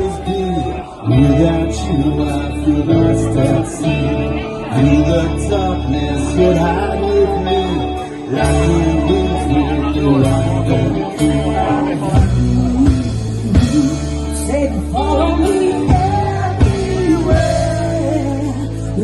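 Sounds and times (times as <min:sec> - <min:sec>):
guitars: 0:00.0 - 0:19.0
person singing: 0:00.0 - 0:19.0
steady bass line: 0:00.0 - 0:19.0.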